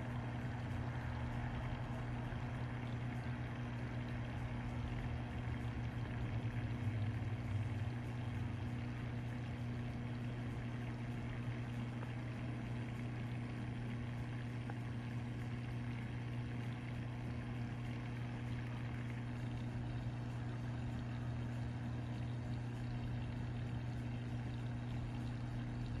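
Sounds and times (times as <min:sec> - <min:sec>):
aquarium pumps humming: 0:00.0 - 0:26.0.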